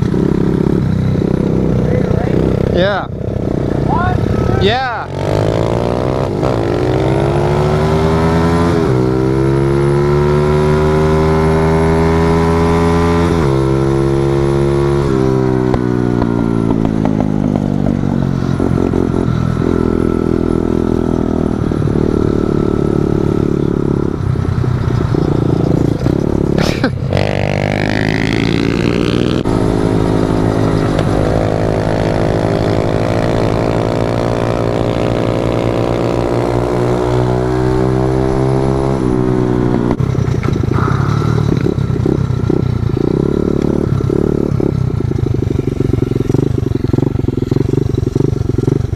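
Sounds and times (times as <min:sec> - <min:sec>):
motorbike engine shifting gears: 0:00.0 - 0:48.9.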